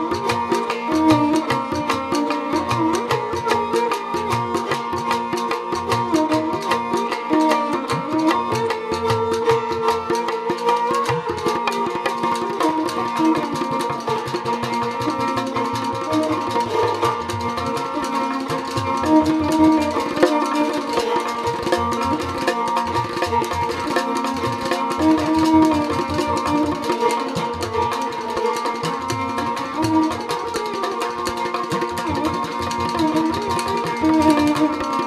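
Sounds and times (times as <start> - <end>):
bowed string melody: 0.0 - 35.0
percussion rhythm: 0.0 - 35.0.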